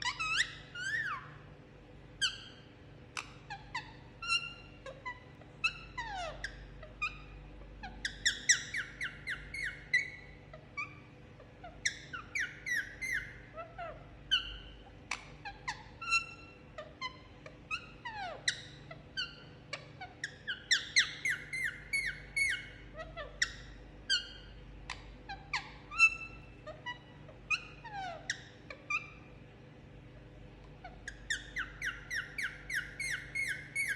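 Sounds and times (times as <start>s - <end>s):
parakeet rapid chattering: 0.0s - 1.4s, 2.2s - 29.3s, 30.7s - 33.9s
parakeet chirps and squawks: 0.0s - 33.9s.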